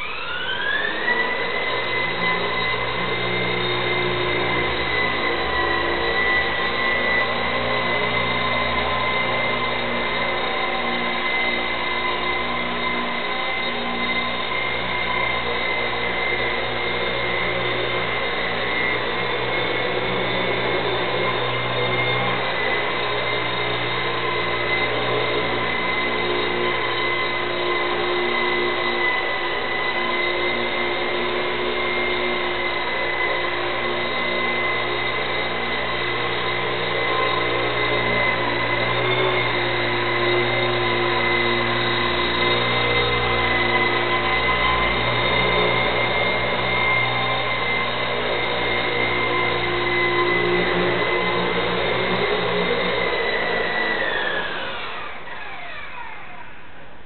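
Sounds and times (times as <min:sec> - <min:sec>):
rc helicopter whine and hum: 0:00.0 - 0:57.0.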